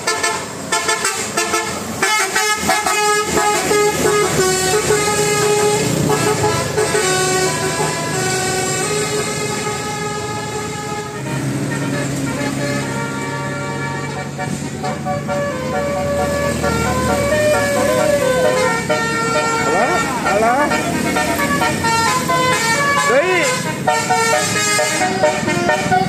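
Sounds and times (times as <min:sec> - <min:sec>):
multi-tone air horn melody: 0:00.0 - 0:26.0.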